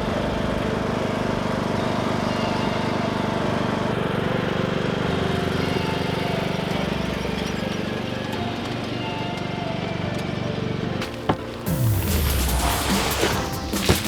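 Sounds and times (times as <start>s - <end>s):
lawn tractor engine running: 0.0s - 14.0s.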